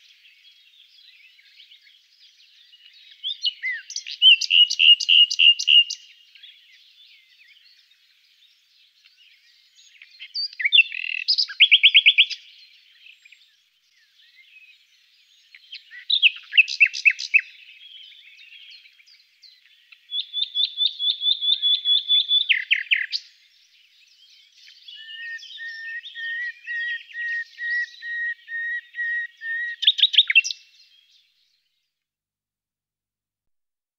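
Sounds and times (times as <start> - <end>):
nightingale singing: 0.0 - 31.4.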